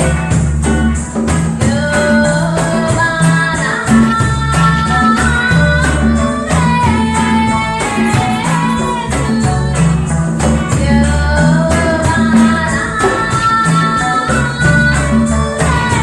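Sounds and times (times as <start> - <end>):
bass line: 0.0 - 16.0
live reggae band: 0.0 - 16.0
percussion strokes: 0.0 - 16.0.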